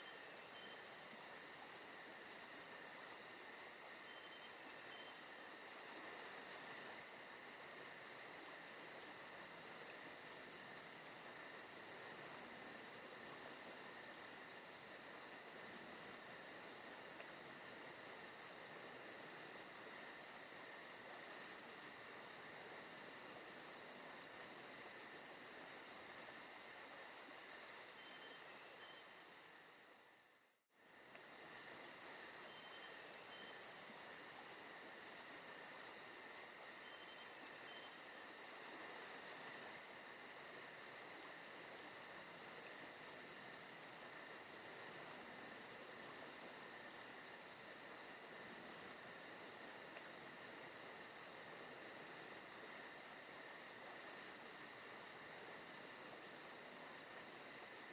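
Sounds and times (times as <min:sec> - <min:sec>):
crickets and insects chirring: 0:00.0 - 0:57.9.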